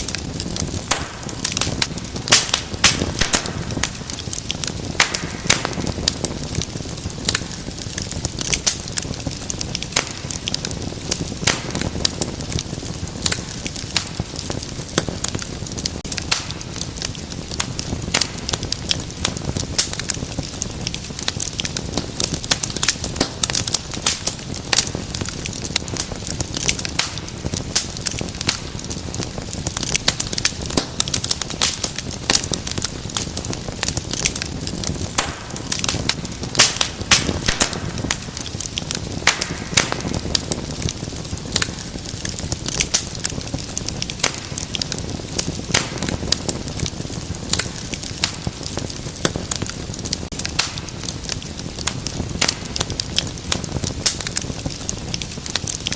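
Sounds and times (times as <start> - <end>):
low rush of flames: 0.0 - 55.9
wood fire crackling and popping: 0.0 - 55.9.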